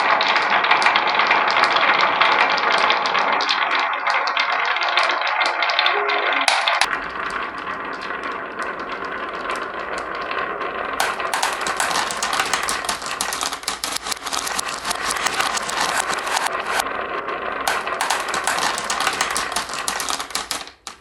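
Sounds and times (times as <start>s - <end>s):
marbles rolling down wooden track: 0.0s - 21.0s.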